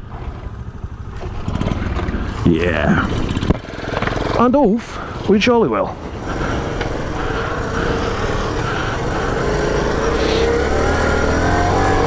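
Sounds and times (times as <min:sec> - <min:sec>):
motorbike engines pulling away: 0:00.0 - 0:12.0.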